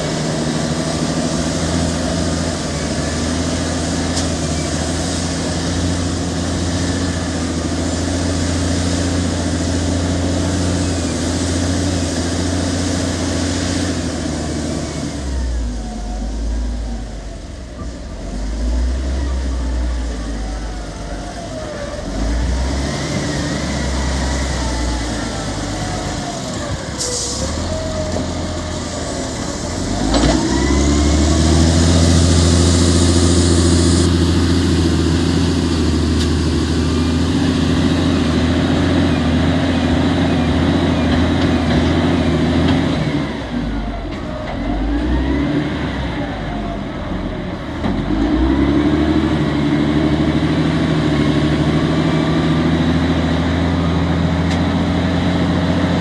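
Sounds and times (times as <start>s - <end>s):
heavy vehicle engine running: 0.0s - 56.0s.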